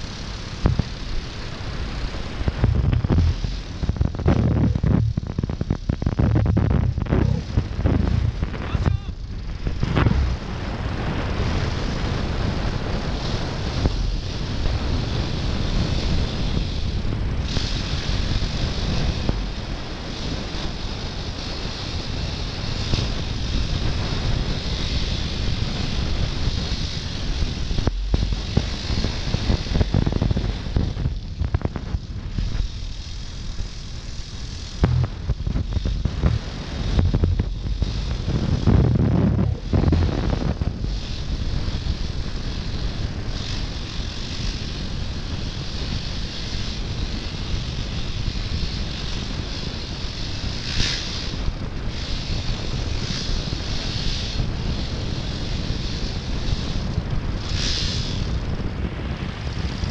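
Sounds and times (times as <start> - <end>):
dirt bike engine revving: 0.0 - 59.9
wind on microphone: 0.0 - 59.9.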